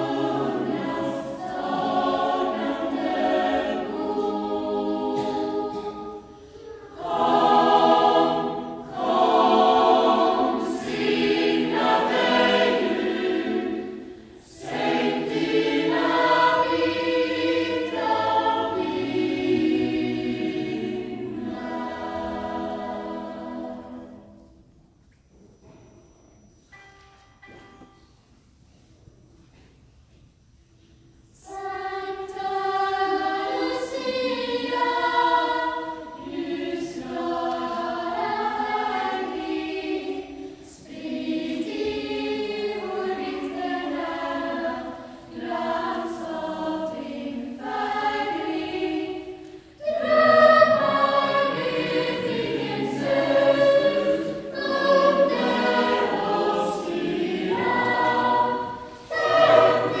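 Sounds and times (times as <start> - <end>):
children's choir singing: 0.0 - 26.1, 31.2 - 60.0.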